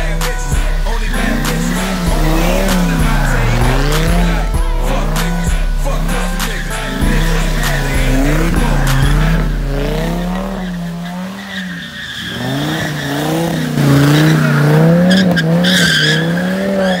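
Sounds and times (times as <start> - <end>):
truck engine revving: 0.0 - 17.0
tyres squealing: 0.0 - 17.0.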